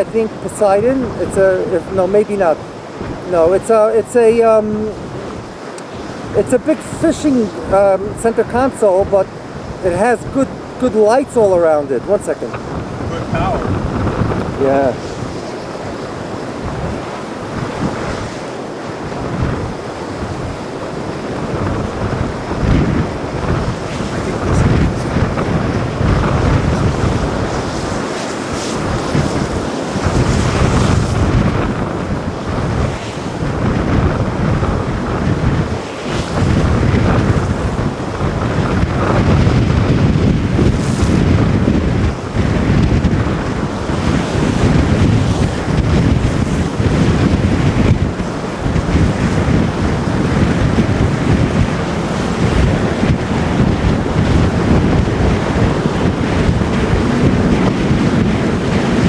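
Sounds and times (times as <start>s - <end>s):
waves rushing: 0.0s - 59.0s
wind buffeting microphone: 0.0s - 59.0s.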